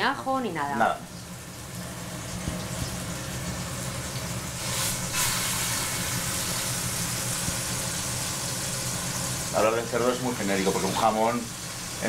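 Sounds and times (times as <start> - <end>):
meat sizzling in a hot pan: 0.4 - 12.0.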